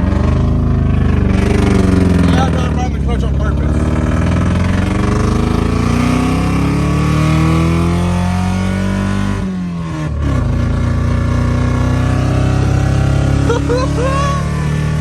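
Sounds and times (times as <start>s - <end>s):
car engine pulling away: 0.0s - 15.0s.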